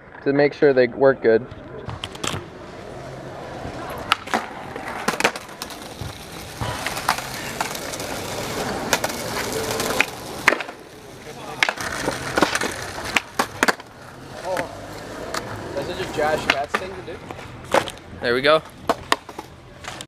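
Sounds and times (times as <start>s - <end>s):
skateboard rolling: 1.4s - 20.0s
skateboard popping and landing: 1.6s - 18.1s, 18.8s - 20.0s.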